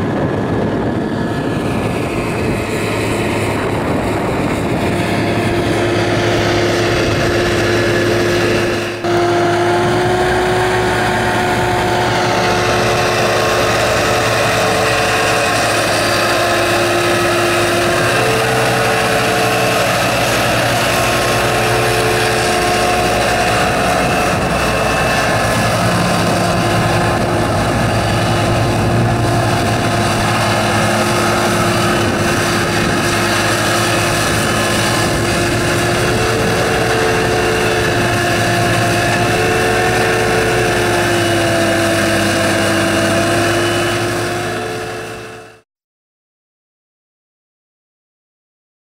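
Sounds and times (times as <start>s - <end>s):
boat engine running under load: 0.0s - 45.6s
pump churning slurry: 0.0s - 45.6s.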